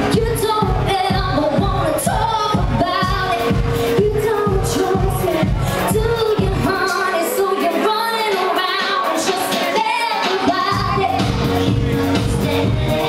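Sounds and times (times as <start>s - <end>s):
pop backing music: 0.0s - 13.0s
woman singing into a microphone: 0.0s - 13.0s.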